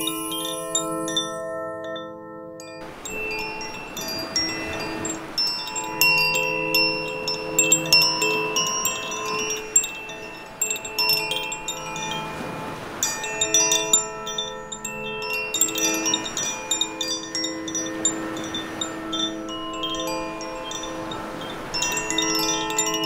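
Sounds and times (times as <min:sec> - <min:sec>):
wind chime ringing: 0:00.0 - 0:23.0.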